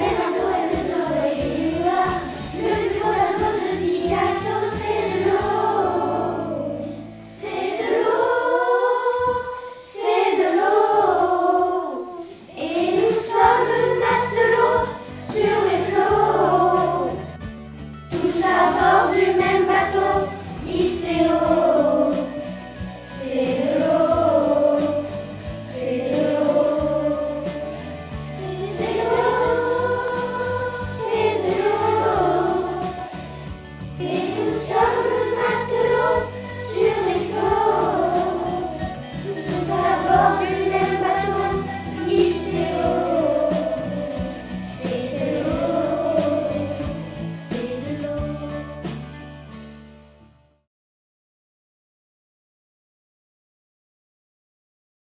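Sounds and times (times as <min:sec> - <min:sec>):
instrumental accompaniment: 0:00.0 - 0:10.8, 0:12.6 - 0:50.4
choir singing: 0:00.0 - 0:17.3, 0:18.1 - 0:48.9.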